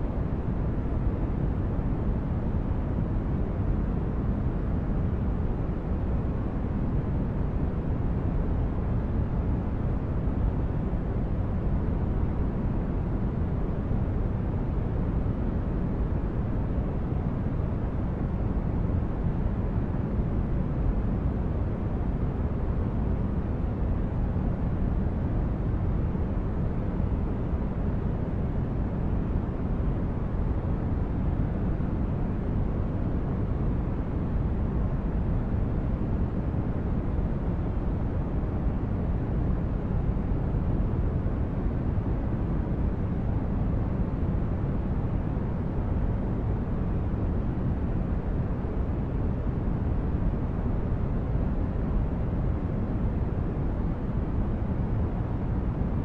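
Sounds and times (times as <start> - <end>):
steady low rumbling noise: 0.0 - 56.0.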